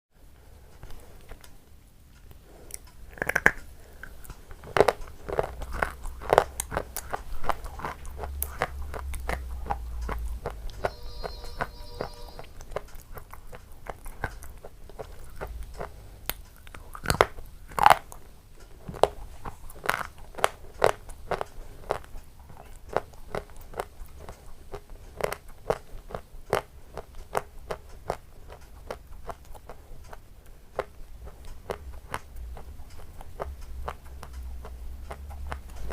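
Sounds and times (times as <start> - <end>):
crunchy chewing: 0.4 - 35.9.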